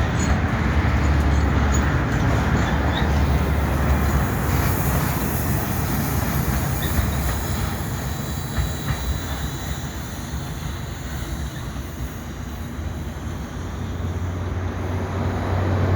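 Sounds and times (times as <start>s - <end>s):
freight train rolling past: 0.0s - 15.9s
faint wheel squeal: 1.3s - 14.6s.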